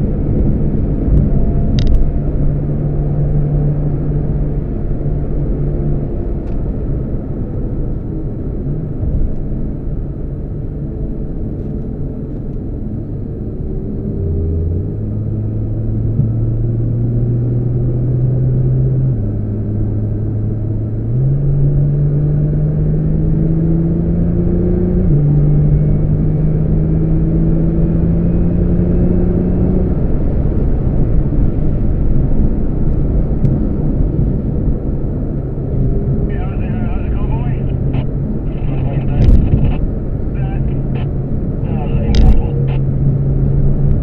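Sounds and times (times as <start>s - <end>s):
road and tyre noise: 0.0s - 44.0s.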